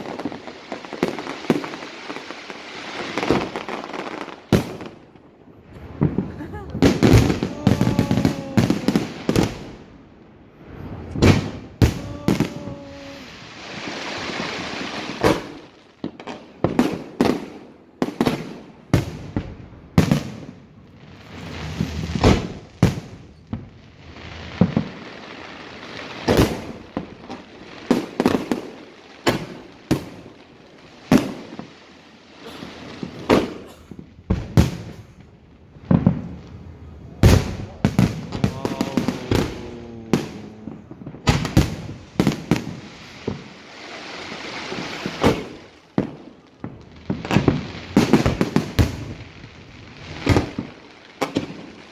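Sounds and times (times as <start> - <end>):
fireworks bangs and booms: 0.0 - 51.9.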